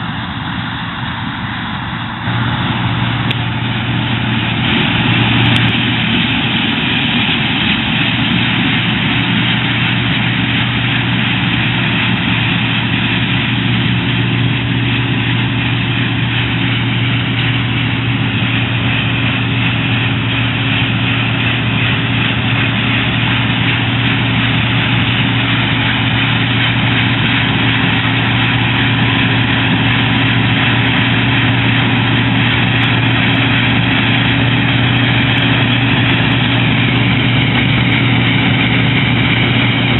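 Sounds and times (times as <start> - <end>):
combine harvester rushing noise: 0.0 - 39.9
diesel engine hum: 0.0 - 39.9.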